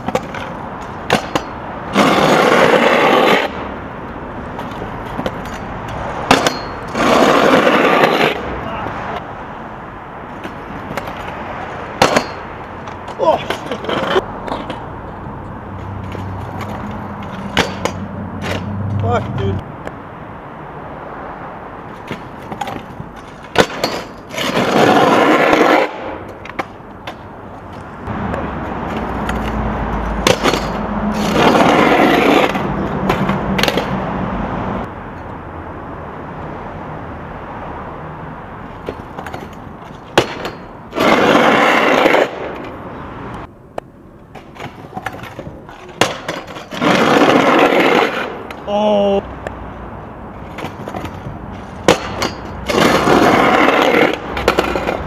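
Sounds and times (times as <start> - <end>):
scooter clacking on concrete: 0.0 - 3.6, 4.5 - 9.3, 10.3 - 20.0, 21.9 - 34.0, 38.7 - 42.8, 43.7 - 49.6, 50.4 - 55.0
scooter wheels rolling on concrete: 0.0 - 55.0.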